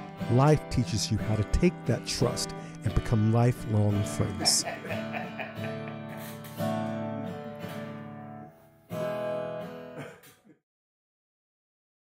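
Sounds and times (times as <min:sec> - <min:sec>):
acoustic guitar strumming chords: 0:00.0 - 0:10.1.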